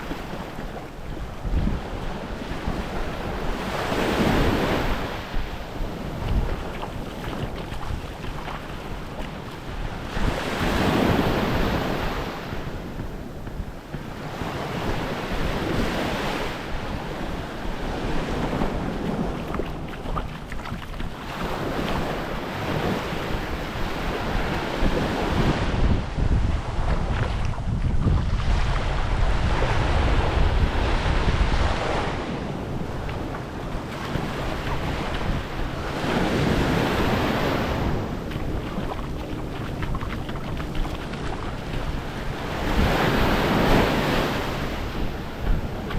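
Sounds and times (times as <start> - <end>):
surf washing up on a beach: 0.0 - 45.9
wind rumbling on microphone: 0.0 - 45.9.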